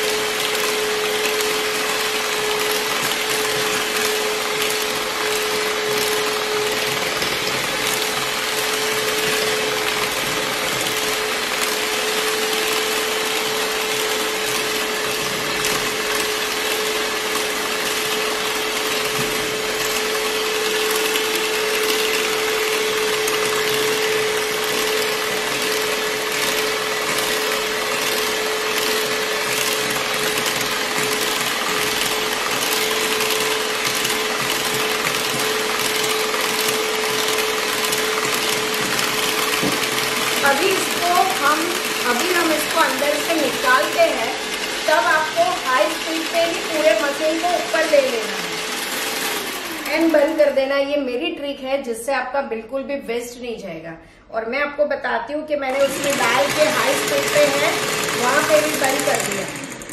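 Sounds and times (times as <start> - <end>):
electric hand mixer whirring: 0.0 - 51.7, 55.5 - 59.9.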